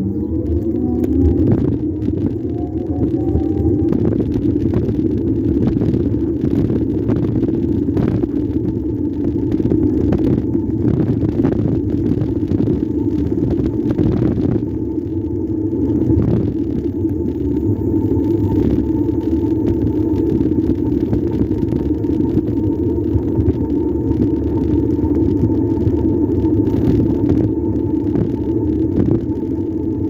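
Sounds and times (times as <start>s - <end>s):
road and wind rumble: 0.0s - 30.0s.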